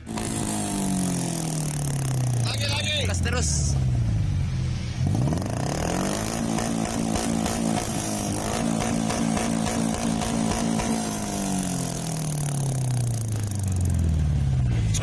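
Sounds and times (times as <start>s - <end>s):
motorcycle engine revving: 0.0s - 4.4s, 5.0s - 15.0s.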